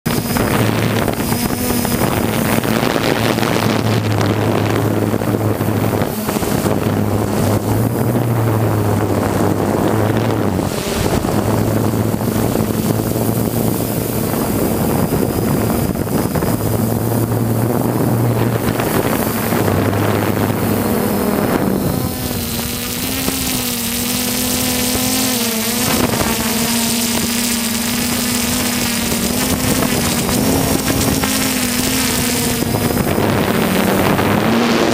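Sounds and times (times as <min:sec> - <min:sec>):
wind rushing over microphone: 0:00.0 - 0:34.9
drone motors humming: 0:00.1 - 0:34.9.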